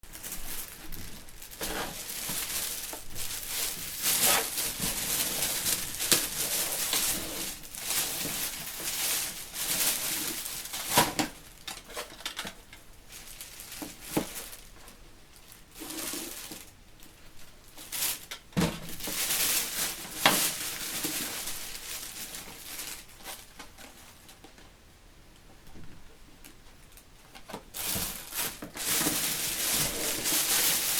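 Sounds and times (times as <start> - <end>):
packaging crinkling: 0.0 - 14.8, 15.4 - 23.9, 26.9 - 30.9.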